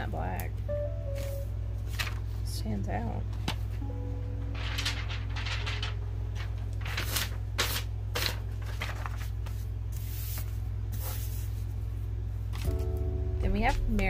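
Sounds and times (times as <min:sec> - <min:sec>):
steady low hum: 0:00.0 - 0:14.0
glitter sheets rustling: 0:01.0 - 0:12.9.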